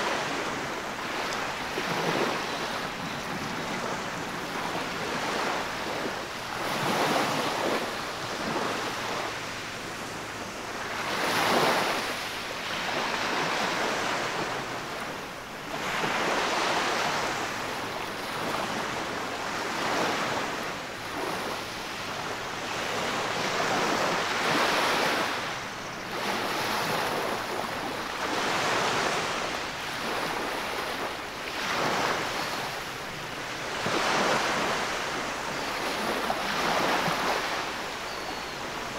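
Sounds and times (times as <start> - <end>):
small waves washing on sand: 0.0 - 38.9.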